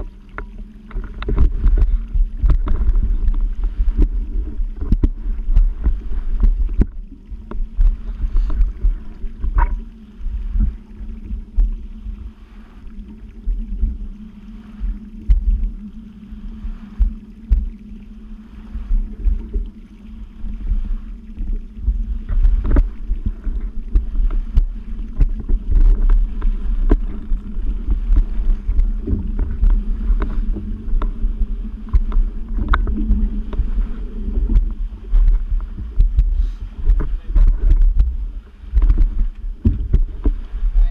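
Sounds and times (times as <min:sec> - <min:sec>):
water slapping: 0:00.0 - 0:40.9
wind buffeting microphone: 0:00.0 - 0:40.9.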